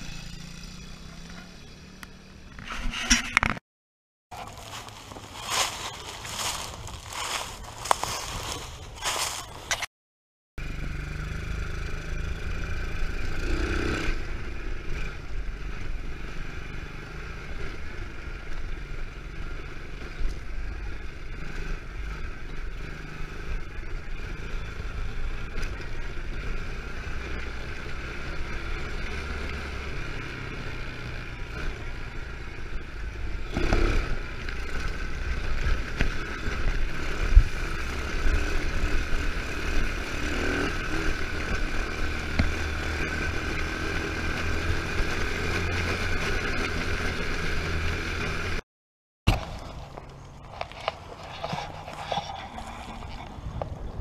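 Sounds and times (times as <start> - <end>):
quad bike engine running: 0.0 - 3.6, 10.6 - 48.6, 49.3 - 54.0.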